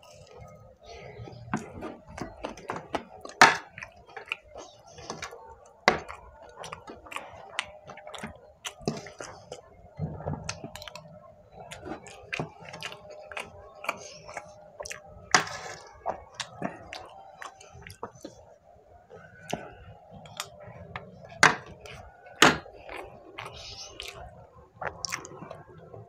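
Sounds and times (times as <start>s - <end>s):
chewing and wet mouth sounds: 0.0s - 26.0s.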